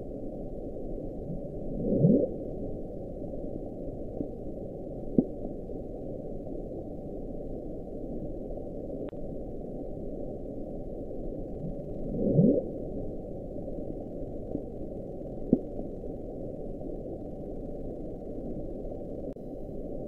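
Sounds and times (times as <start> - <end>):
low underwater rumbling hiss: 0.0 - 20.0.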